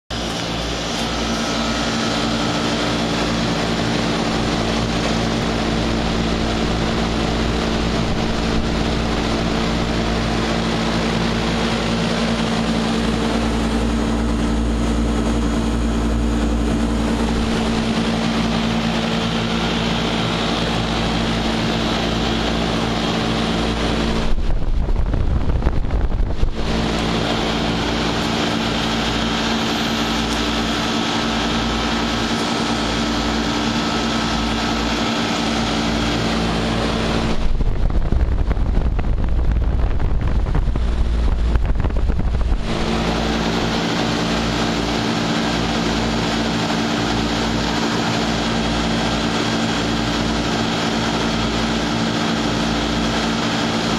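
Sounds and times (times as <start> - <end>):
electrical hum: 0.1 - 53.9
heat pump fan whooshing: 0.1 - 53.9
wind buffeting microphone: 0.2 - 53.8.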